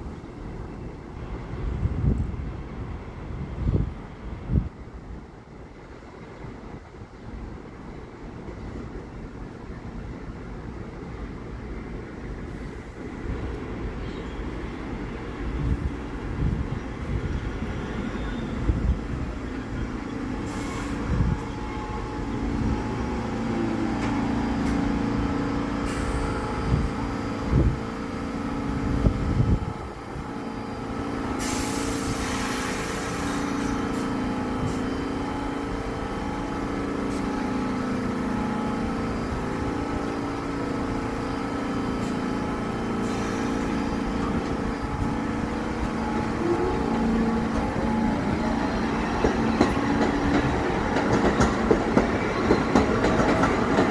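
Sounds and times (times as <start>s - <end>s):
subway train motor hum: 0.0s - 53.9s.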